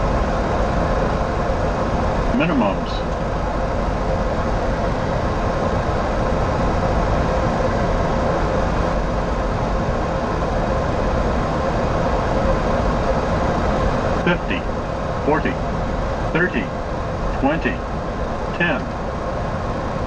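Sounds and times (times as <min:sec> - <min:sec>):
aircraft engine noise: 0:00.0 - 0:20.0
faint steady hum: 0:00.0 - 0:20.0.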